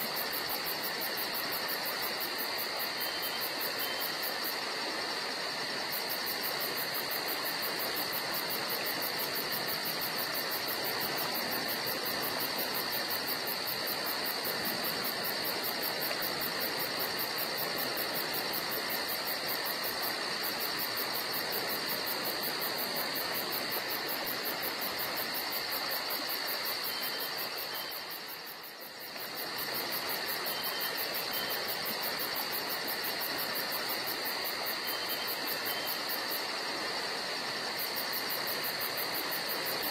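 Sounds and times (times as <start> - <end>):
constant hiss: 0.0 - 39.9
crickets trilling: 0.0 - 39.9.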